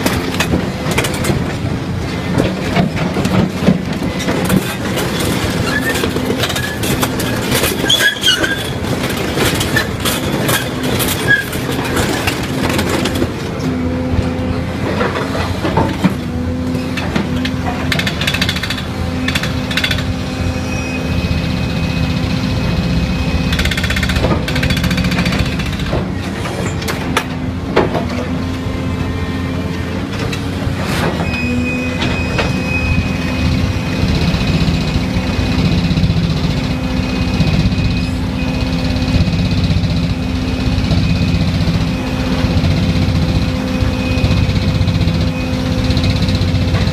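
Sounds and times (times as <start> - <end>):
excavator engine: 0.0 - 46.9.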